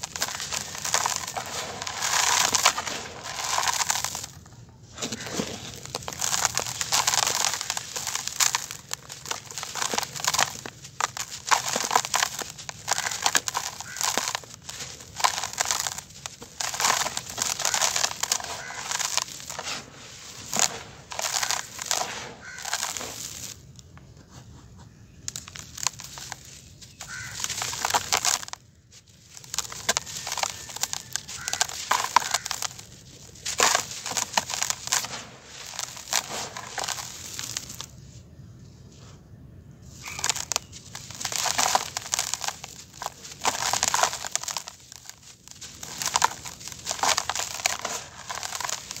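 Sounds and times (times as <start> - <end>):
grains pattering into plastic basin: 0.0 - 4.4, 5.0 - 23.7, 25.3 - 38.0, 39.9 - 49.0
cement clumps crunching by hand: 0.0 - 24.4, 25.1 - 38.2, 39.8 - 49.0.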